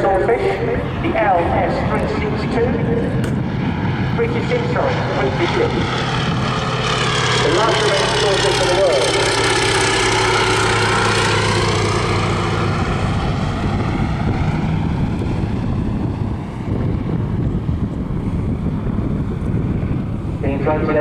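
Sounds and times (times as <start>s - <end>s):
wind on microphone: 0.0s - 8.1s, 9.2s - 21.0s
biplane engine droning past: 0.0s - 21.0s.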